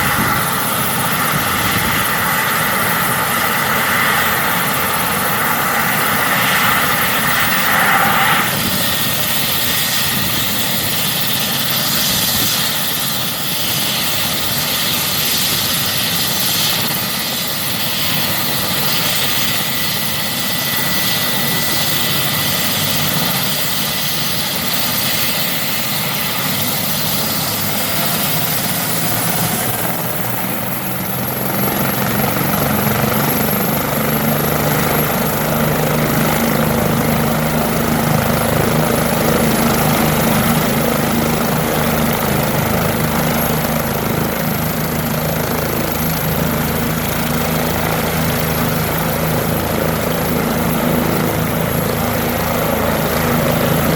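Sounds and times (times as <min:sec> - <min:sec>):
helicopter rotor beating: 0:00.0 - 0:53.9
helicopter turbine whine: 0:00.0 - 0:53.9.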